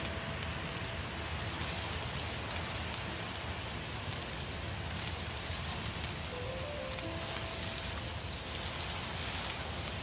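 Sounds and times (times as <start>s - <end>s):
fire rushing: 0.0s - 10.0s
small fire crackles: 0.0s - 10.0s.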